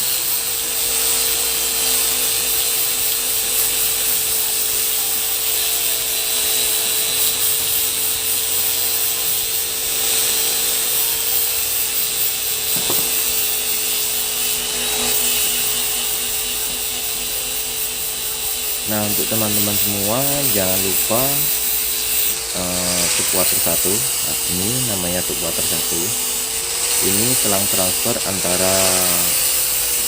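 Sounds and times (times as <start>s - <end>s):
mechanical hum and hiss: 0.0s - 30.0s
hand tools on outboard motor: 0.3s - 30.0s.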